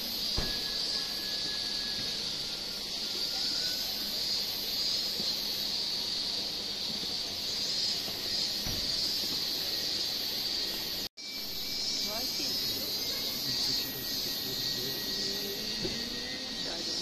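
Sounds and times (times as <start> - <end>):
high-pitched insect drone: 0.0 - 17.0
outdoor background noise: 0.0 - 17.0.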